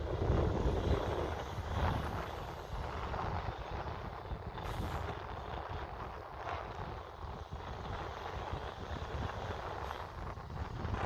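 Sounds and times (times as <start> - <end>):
dump truck engine rumbling: 0.0 - 11.0.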